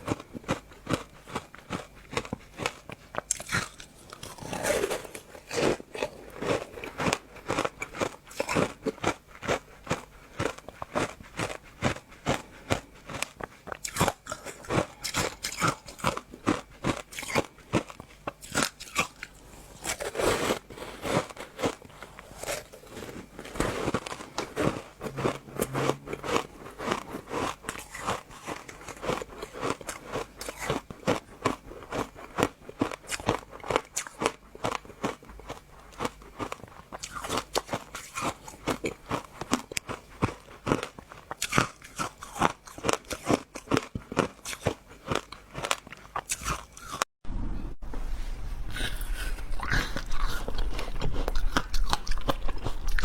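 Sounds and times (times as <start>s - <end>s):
person chewing crunchy food: 0.0s - 47.1s, 49.2s - 53.0s.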